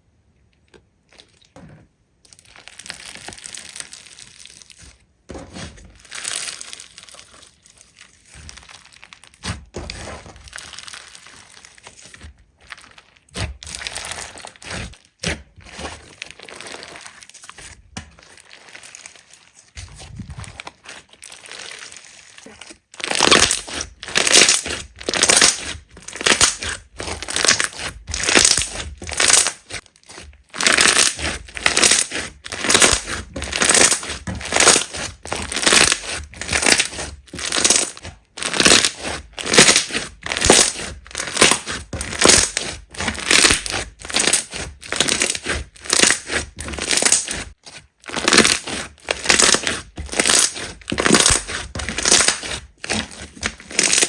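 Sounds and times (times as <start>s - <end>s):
slime squished by hand: 2.2s - 54.0s.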